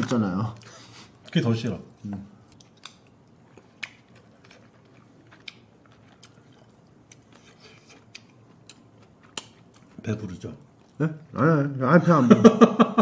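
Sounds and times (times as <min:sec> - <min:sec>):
people chewing: 0:00.0 - 0:11.4.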